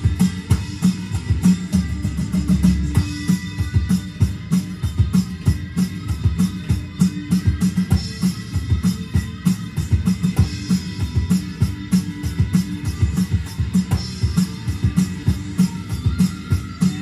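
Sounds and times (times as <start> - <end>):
electronic drum kit playing: 0.0 - 17.0
hard rock music: 0.0 - 17.0.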